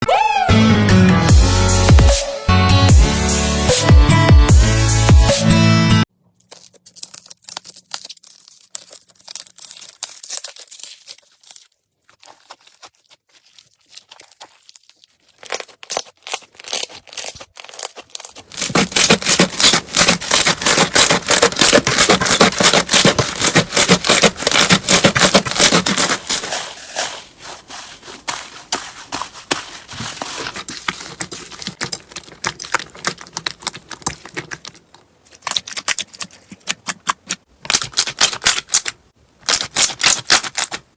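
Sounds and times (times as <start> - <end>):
slime squeezed crackling and popping: 6.4 - 40.8.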